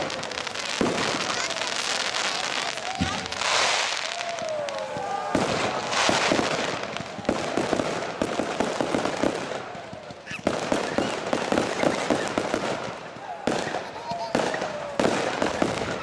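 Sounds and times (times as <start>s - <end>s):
falling firework whistles: 0.0s - 16.0s
firework crackling: 0.0s - 16.0s.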